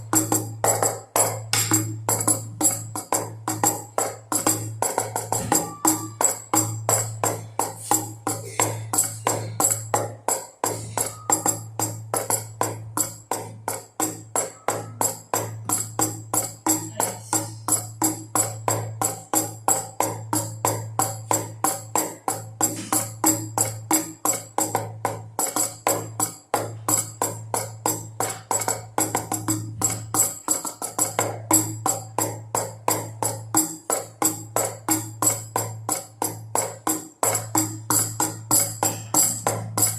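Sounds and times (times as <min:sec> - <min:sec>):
drum beats: 0:00.0 - 0:39.9.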